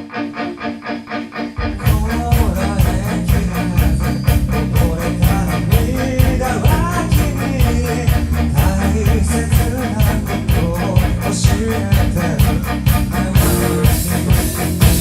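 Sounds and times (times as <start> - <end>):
rock band playing live: 0.0 - 15.0
person singing: 1.6 - 14.3.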